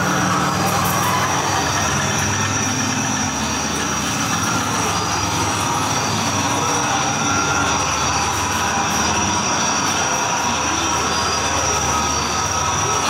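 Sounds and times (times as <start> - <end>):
grinding machine-like rumble: 0.0 - 13.0.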